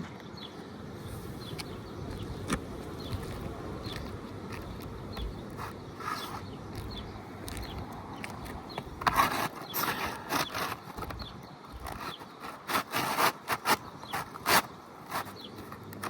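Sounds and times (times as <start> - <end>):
shingle scraping and rubbing: 1.6 - 16.0.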